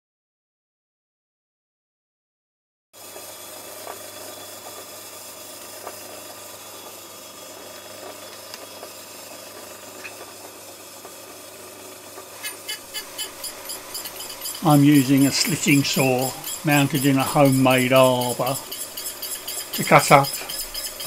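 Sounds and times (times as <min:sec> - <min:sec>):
metal lathe humming: 0:03.4 - 0:21.0.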